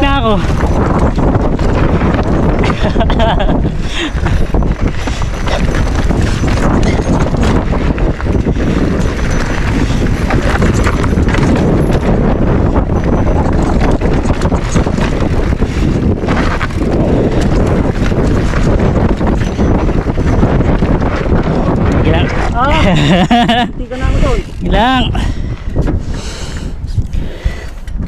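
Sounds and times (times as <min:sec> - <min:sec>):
bike rattling over rocks: 0:00.0 - 0:26.0
wind buffeting microphone: 0:00.0 - 0:28.0.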